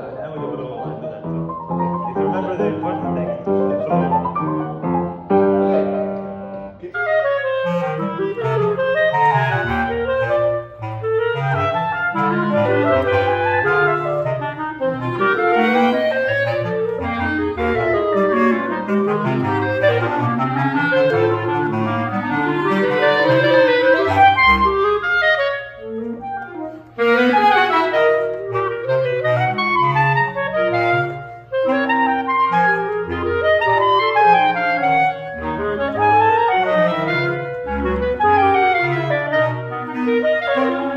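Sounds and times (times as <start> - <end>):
clarinets playing: 1.2 - 40.9.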